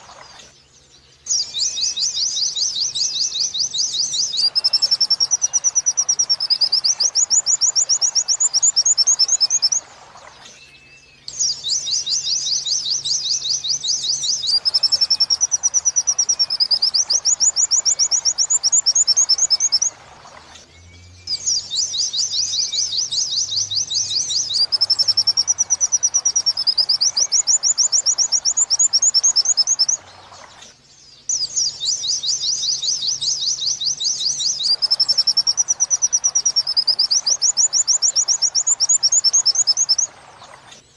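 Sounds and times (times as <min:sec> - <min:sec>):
white-eye bird song: 0:00.0 - 0:40.9.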